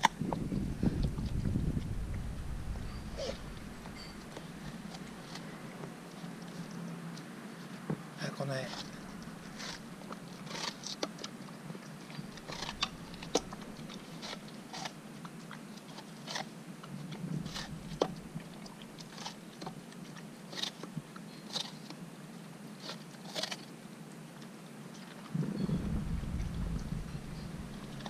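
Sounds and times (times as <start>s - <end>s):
dog chewing watermelon rind: 0.0s - 28.0s.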